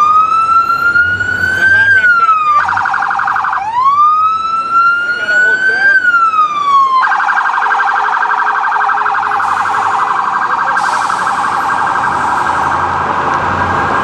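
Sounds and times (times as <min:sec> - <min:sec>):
police siren warbling: 0:00.0 - 0:14.0.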